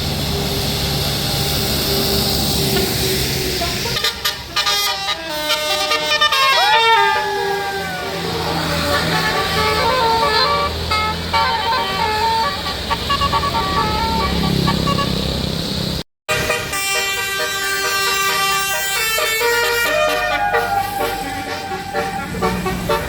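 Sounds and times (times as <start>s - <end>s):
bus engine running: 0.0s - 23.0s
musical bus horn: 3.2s - 15.5s, 16.3s - 23.0s.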